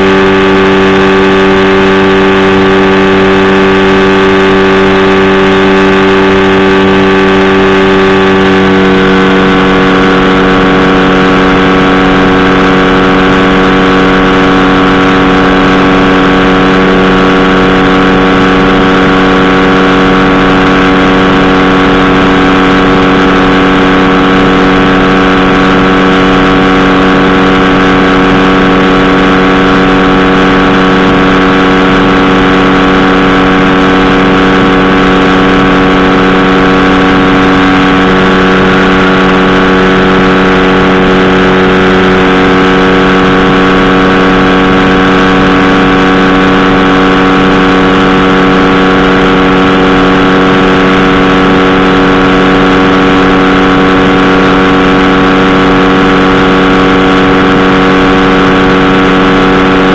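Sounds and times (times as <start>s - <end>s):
engine and propeller humming: 0.0s - 59.9s.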